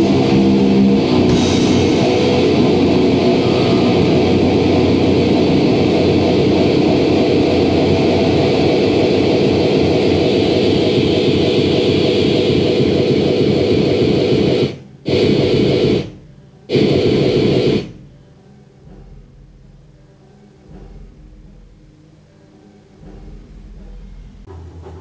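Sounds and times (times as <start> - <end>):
noisy static-like band music: 0.0 - 25.0.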